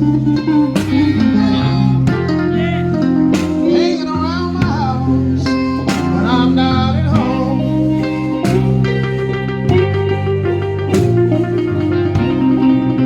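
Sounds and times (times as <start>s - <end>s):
keyboard notes: 0.0s - 13.0s
slow blues band: 0.0s - 13.0s.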